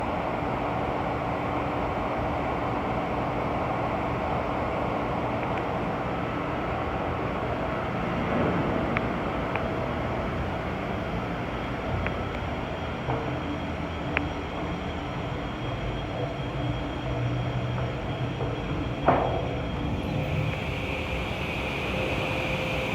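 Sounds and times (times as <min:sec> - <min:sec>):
industrial machinery drone: 0:00.0 - 0:22.9.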